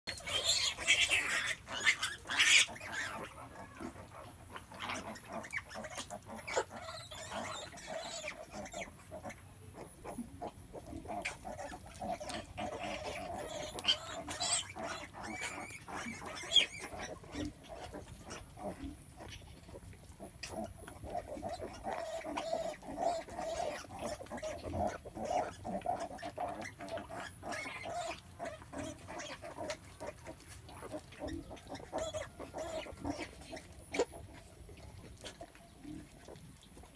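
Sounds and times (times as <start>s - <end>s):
pigs grunting: 0.1s - 36.9s.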